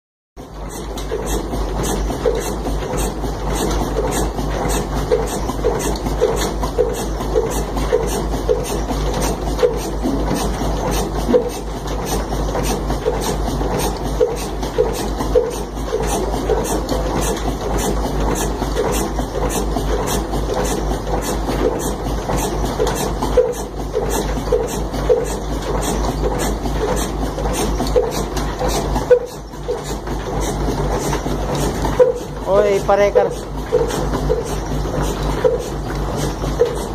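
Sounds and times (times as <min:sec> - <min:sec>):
stationary diesel engine running: 0:00.4 - 0:36.9.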